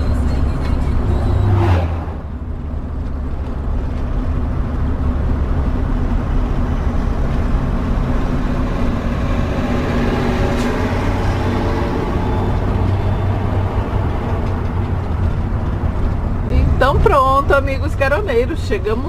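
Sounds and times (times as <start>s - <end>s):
bus engine droning: 0.0s - 19.0s
road noise: 0.0s - 19.0s.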